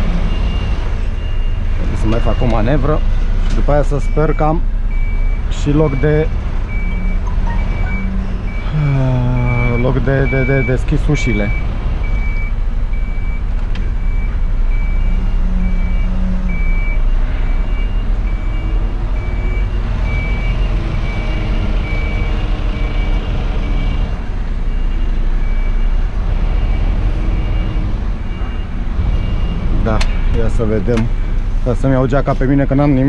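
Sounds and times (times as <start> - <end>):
truck reversing alarm beeping: 0.0 - 32.0
diesel engine running: 0.0 - 33.0.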